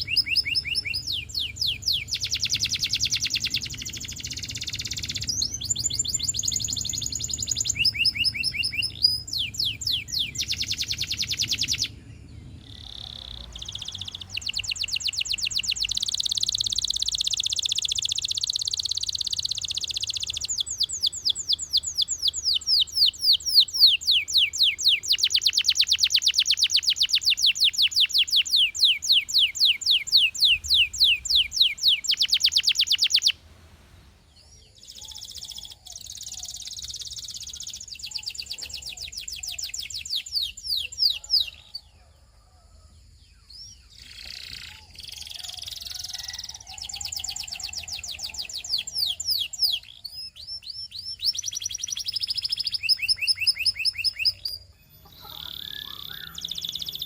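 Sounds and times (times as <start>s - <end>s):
canary singing: 0.0s - 33.4s, 34.2s - 42.0s, 43.3s - 57.0s.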